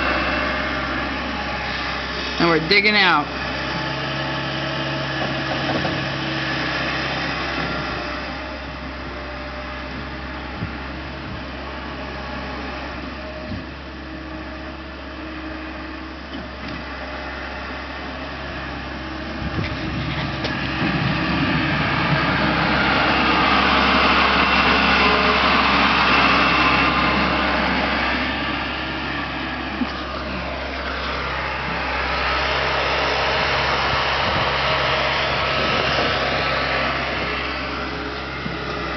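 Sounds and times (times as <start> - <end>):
snow-clearing vehicle engine: 0.0 - 38.9.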